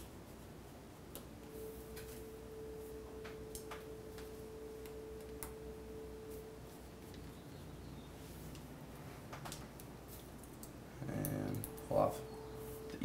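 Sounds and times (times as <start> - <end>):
faint steady tone: 1.1 - 9.0, 10.1 - 13.0.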